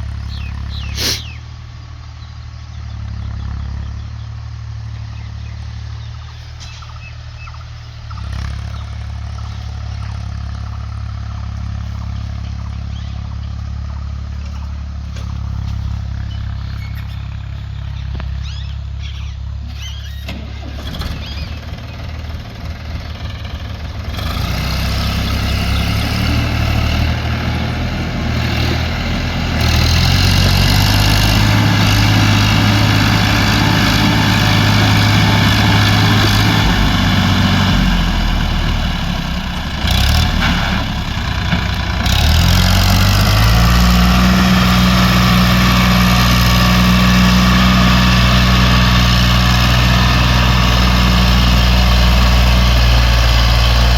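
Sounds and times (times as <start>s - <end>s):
diesel engine revving: 0.0s - 53.9s.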